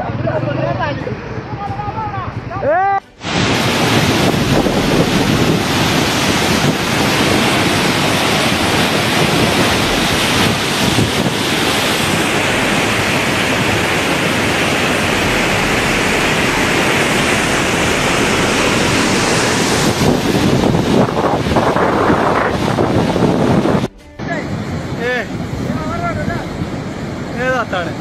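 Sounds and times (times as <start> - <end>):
floodwater rushing: 3.2 - 28.0
wind buffeting microphone: 3.2 - 28.0.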